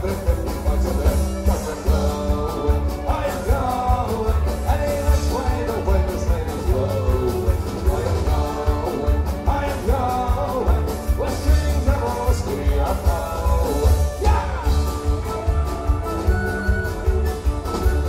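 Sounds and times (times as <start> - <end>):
acoustic guitar: 0.0 - 18.0
drum kit beat: 0.0 - 18.0
folk-rock band playing: 0.0 - 18.0.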